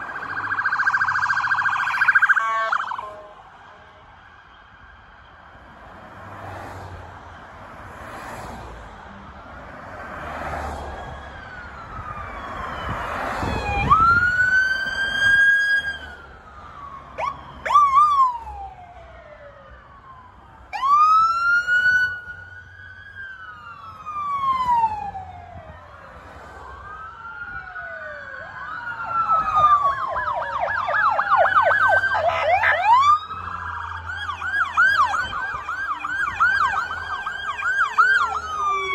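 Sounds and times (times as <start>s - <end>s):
fast siren yelp: 0.0s - 5.4s, 10.2s - 38.9s
siren whoops: 0.0s - 5.4s, 10.4s - 38.9s
police sirens wailing: 0.0s - 38.9s.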